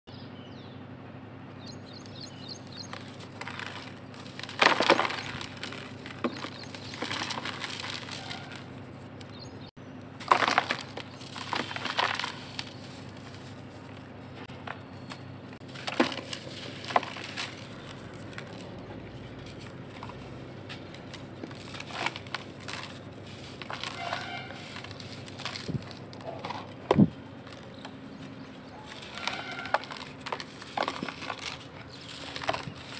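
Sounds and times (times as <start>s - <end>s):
charcoal crunching and crumbling: 1.9s - 9.4s, 10.0s - 32.9s.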